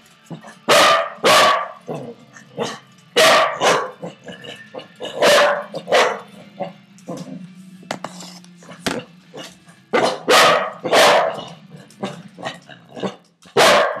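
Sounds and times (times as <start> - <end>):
puppies barking: 0.3 - 7.3, 8.8 - 14.0.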